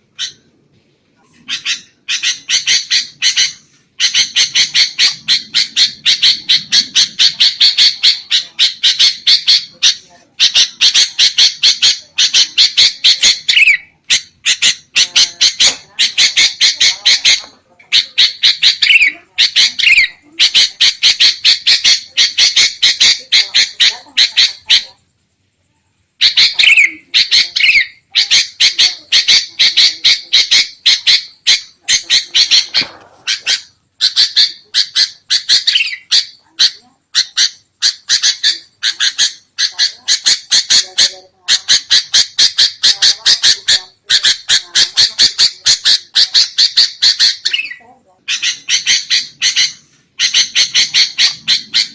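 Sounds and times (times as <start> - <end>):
bulbuls chattering: 0.0 - 25.2, 26.1 - 51.9.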